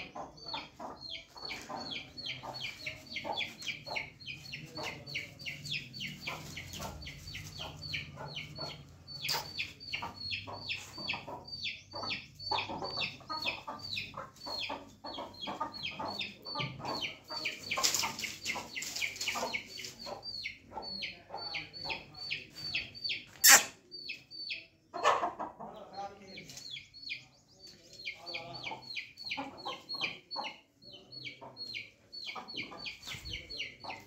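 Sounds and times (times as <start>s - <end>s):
chicken clucks: 0.0s - 34.0s
chicks peeping: 0.0s - 34.0s.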